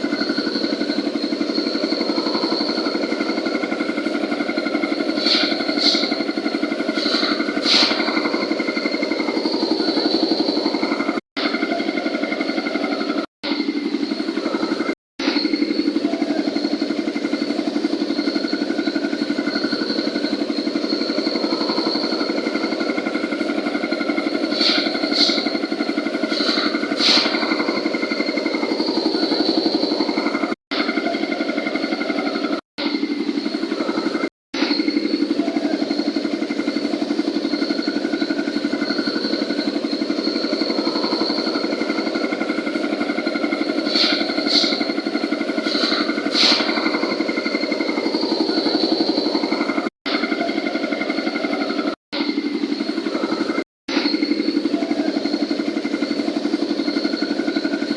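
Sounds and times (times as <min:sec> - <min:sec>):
concrete mixer running: 0:00.0 - 0:57.9
thin high whine: 0:00.0 - 0:57.9.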